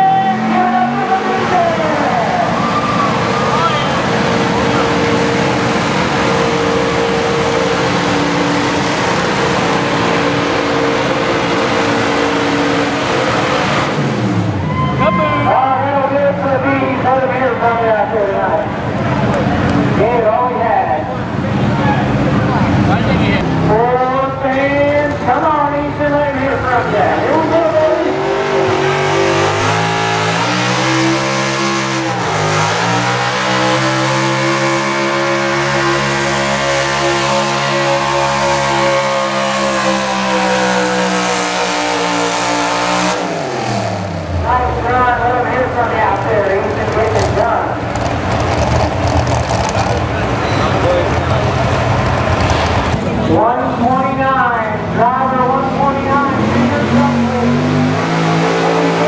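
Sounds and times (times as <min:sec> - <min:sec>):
pickup engine running under load: 0:00.0 - 0:59.0.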